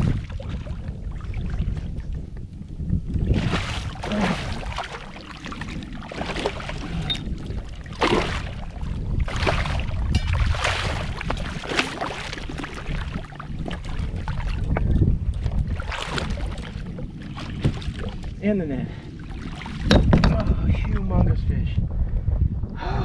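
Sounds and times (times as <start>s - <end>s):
fish splashing in shallow water: 0.0s - 2.3s, 3.0s - 18.4s, 19.0s - 19.9s
wind rumble on microphone: 0.0s - 23.0s.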